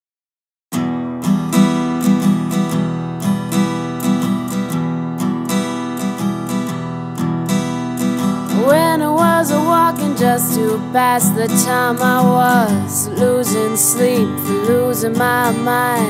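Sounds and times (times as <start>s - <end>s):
acoustic guitar strumming: 0.7s - 16.0s.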